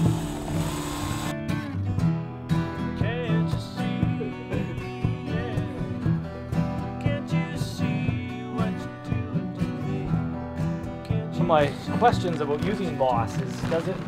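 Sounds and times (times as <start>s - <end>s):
country acoustic guitar music: 0.0s - 14.0s.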